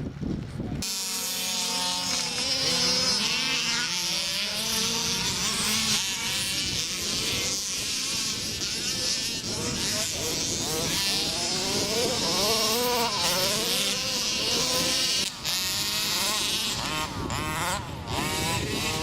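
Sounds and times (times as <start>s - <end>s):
small engines revving: 0.4s - 19.0s.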